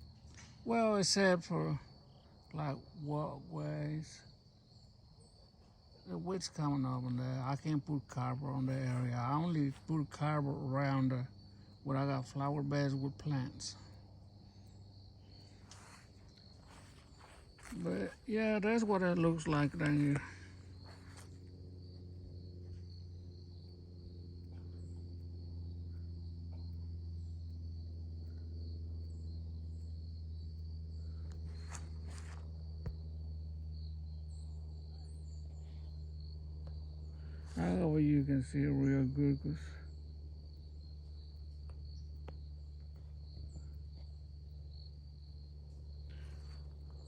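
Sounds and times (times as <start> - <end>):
crickets trilling: 0.0 - 47.0
faint chirps: 0.0 - 47.0
low hum: 0.0 - 47.0
low steady rumble: 0.0 - 47.0.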